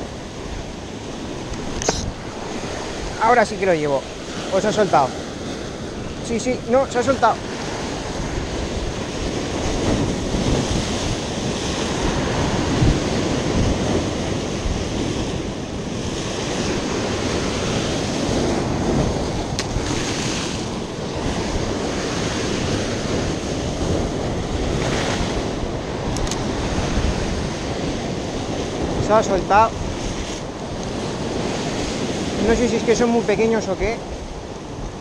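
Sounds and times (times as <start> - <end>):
waves breaking over rocks: 0.0 - 35.0
wind buffeting microphone: 0.0 - 35.0.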